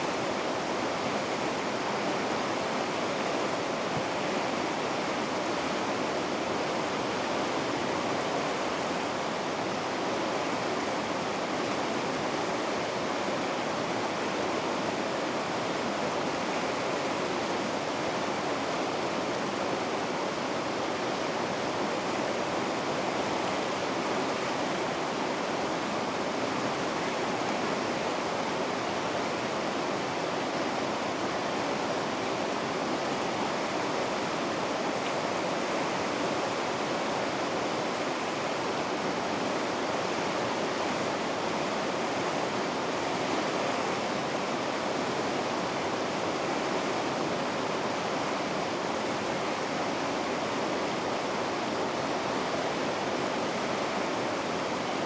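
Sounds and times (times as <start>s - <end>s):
river rapids rushing: 0.0s - 55.0s.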